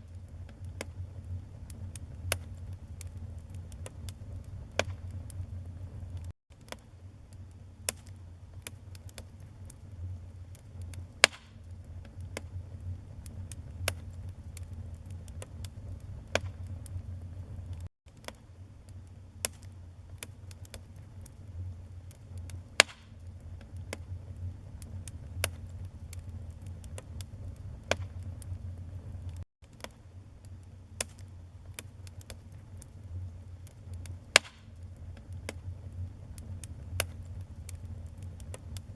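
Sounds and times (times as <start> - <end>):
wood fire rumbling: 0.0 - 6.3, 7.3 - 17.9, 18.9 - 29.4, 30.4 - 38.9
fire crackling and popping: 0.0 - 38.9.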